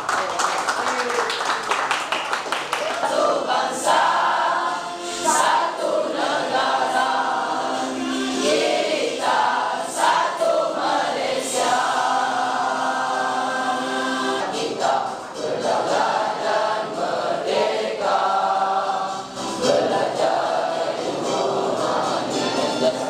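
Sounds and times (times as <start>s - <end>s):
boys singing in unison: 3.1s - 23.0s.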